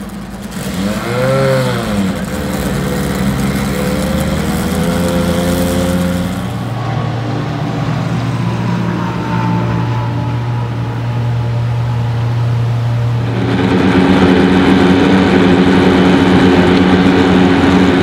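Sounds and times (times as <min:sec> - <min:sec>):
race car engine idling: 0:00.0 - 0:18.0.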